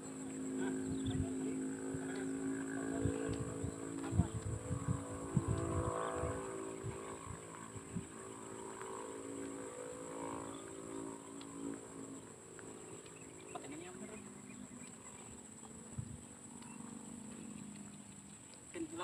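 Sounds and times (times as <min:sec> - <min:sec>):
small engine humming: 0:00.0 - 0:19.0.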